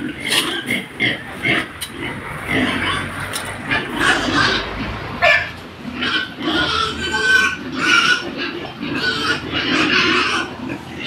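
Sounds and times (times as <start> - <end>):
pigs grunting: 0.0 - 11.0
pigs squealing: 0.0 - 11.0.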